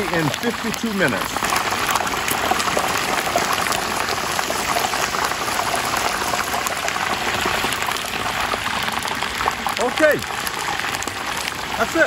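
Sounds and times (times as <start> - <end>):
oil sizzling and popping: 0.0 - 12.0.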